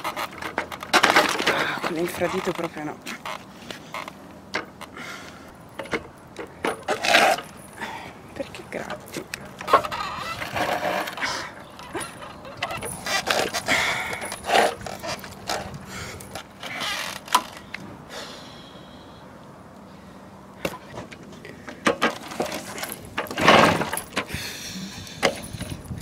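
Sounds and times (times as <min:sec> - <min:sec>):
moped pedal clattering: 0:00.0 - 0:05.0, 0:05.7 - 0:07.8, 0:08.5 - 0:17.8, 0:20.6 - 0:24.4, 0:25.2 - 0:26.0.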